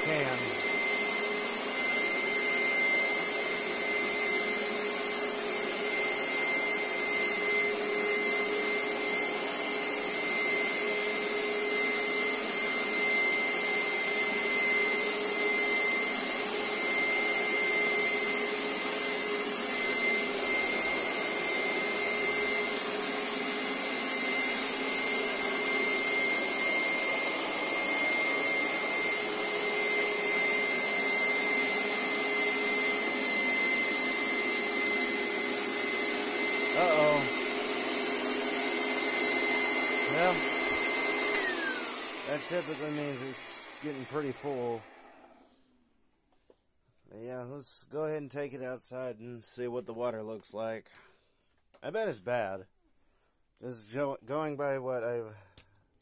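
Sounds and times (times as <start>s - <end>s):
carpet cleaner suction motor: 0.0s - 45.8s.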